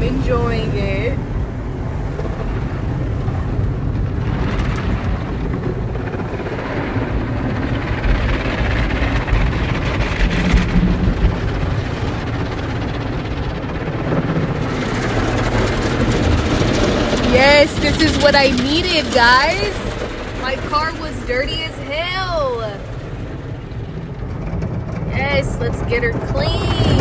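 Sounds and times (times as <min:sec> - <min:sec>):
car wash machinery rumble: 0:00.0 - 0:27.0.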